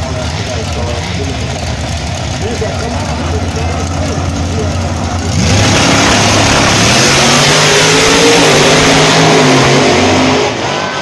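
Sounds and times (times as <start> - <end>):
drag racing car engines at full throttle: 0.0 - 11.0.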